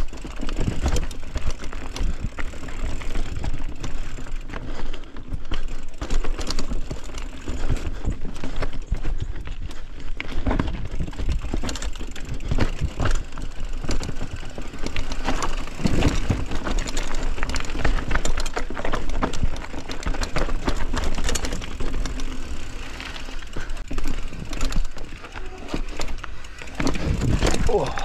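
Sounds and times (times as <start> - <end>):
mountain bike rattling on rough trail: 0.0 - 28.0.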